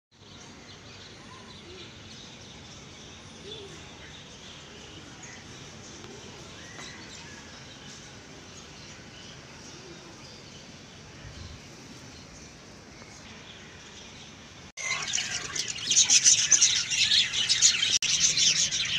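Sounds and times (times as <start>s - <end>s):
outdoor background noise: 0.1s - 18.9s.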